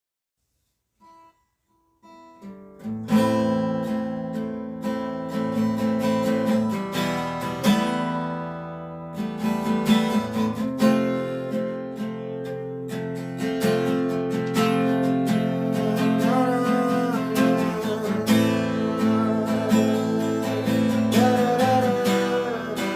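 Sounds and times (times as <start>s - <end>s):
guitar picked notes and strummed chords: 1.0s - 22.9s.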